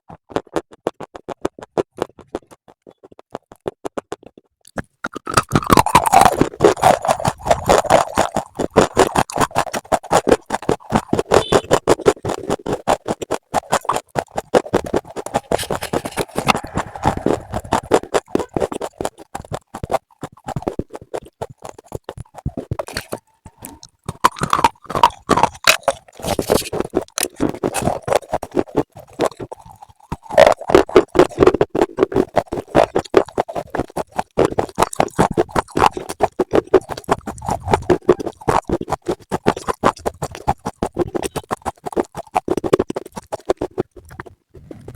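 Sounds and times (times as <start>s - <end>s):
crunching and chewing: 0.1s - 44.9s.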